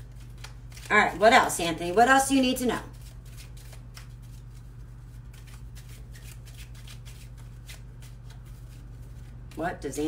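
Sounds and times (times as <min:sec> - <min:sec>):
cards being shuffled: 0:00.0 - 0:01.7, 0:02.8 - 0:09.7.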